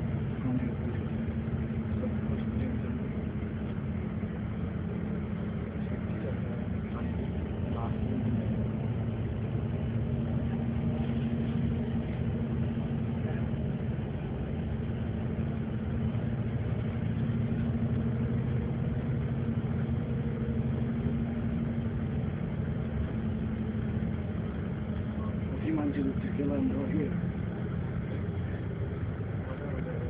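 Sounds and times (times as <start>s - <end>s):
vehicle engine and tyre drone: 0.0s - 30.0s.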